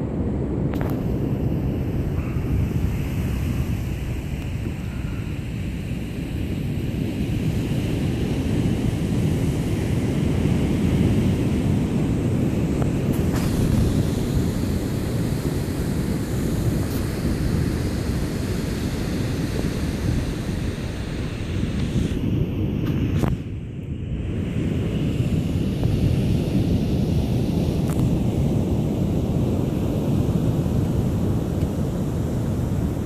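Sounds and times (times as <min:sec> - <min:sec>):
ocean surf on beach: 0:00.0 - 0:33.0
wind blowing on microphone: 0:00.0 - 0:33.0.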